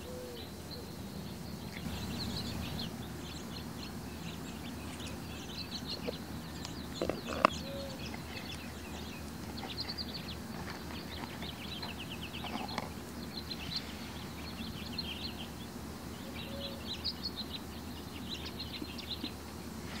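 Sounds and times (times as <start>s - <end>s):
low background noise: 0.0s - 20.0s
small birds chirping and trilling: 0.0s - 20.0s.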